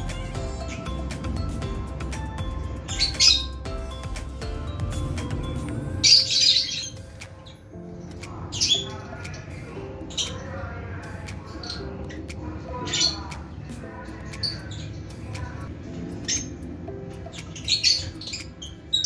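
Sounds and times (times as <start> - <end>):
lovebirds squawking: 0.0 - 19.0
soft background music: 0.0 - 19.0.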